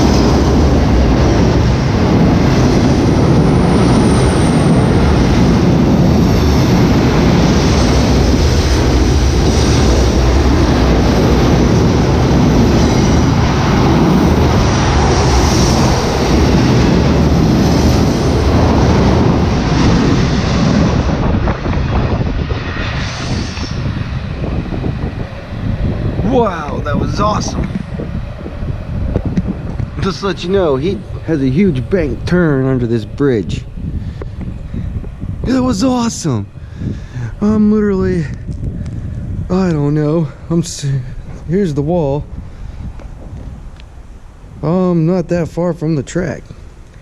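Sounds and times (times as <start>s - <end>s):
freight train wheels rumbling: 0.0s - 47.0s.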